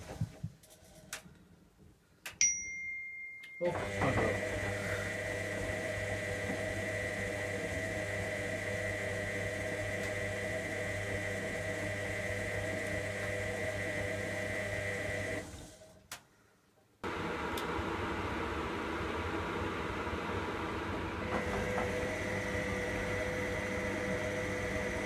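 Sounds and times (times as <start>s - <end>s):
washing machine humming with whine: 3.7s - 15.9s, 17.0s - 25.0s.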